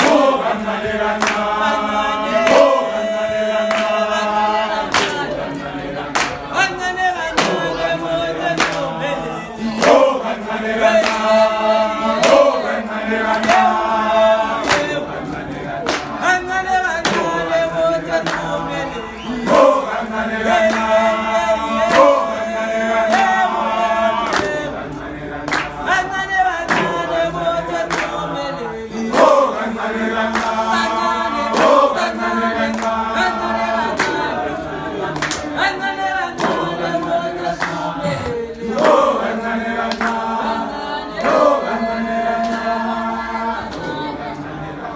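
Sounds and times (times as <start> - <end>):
handclaps: 0.0 - 9.0, 9.6 - 44.5
men singing together: 0.0 - 44.9.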